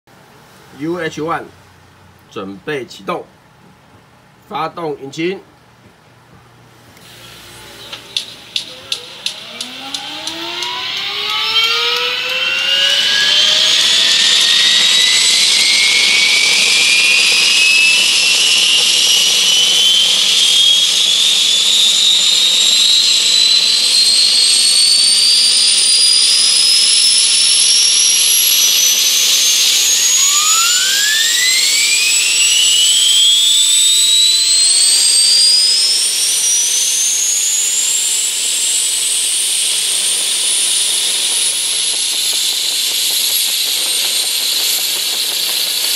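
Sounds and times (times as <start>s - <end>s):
second whine rising quickly: 7.0s - 45.9s
turbine whine rising: 7.0s - 45.9s.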